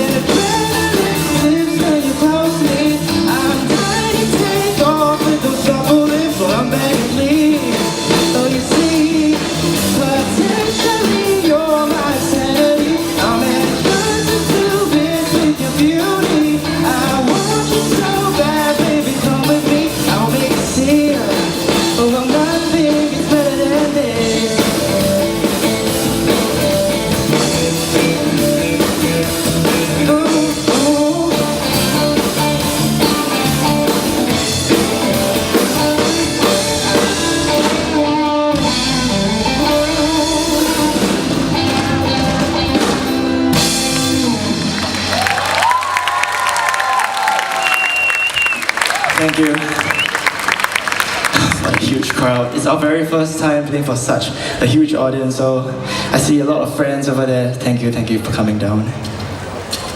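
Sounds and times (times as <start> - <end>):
lead singer: 0.0 - 48.4
pop-rock band playing live: 0.0 - 58.4.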